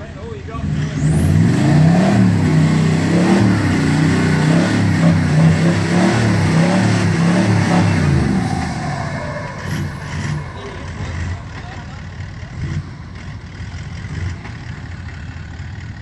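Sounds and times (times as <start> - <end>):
engine revving in mud: 0.0 - 16.0.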